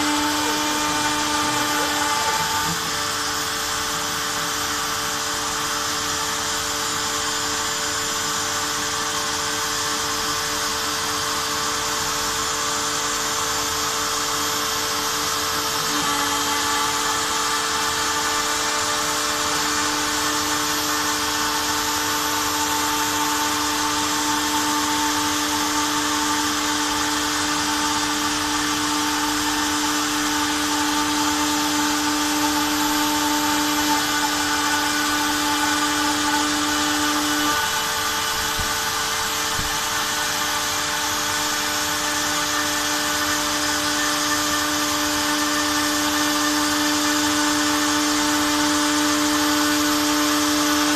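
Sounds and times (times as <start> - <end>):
vacuum hose sucking dust: 0.0 - 9.3, 13.7 - 50.9
router spindle whining: 0.0 - 50.9.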